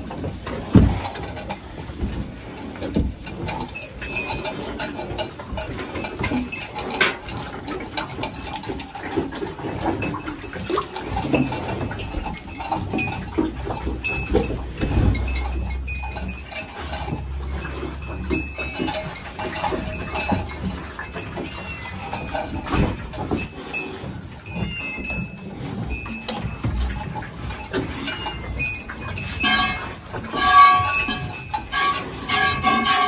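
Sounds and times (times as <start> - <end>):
farm animals: 0.0 - 33.0
knocks and rustling: 0.0 - 33.0.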